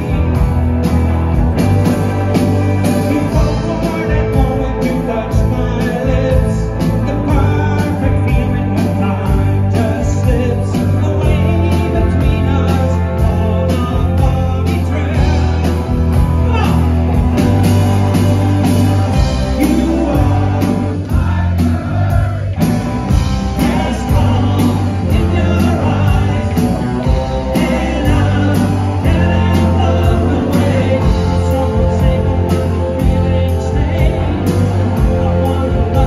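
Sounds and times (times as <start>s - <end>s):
electric bass: 0.0s - 36.0s
electric guitars: 0.0s - 36.0s
live rock band playing: 0.0s - 36.0s
man singing lead vocal: 2.6s - 17.0s, 19.1s - 22.5s, 23.1s - 36.0s.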